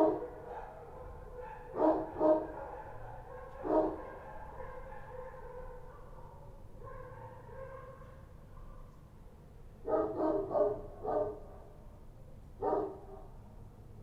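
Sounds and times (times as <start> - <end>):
dogs barking sharply: 0.0 - 8.9, 9.8 - 11.6, 12.6 - 13.2.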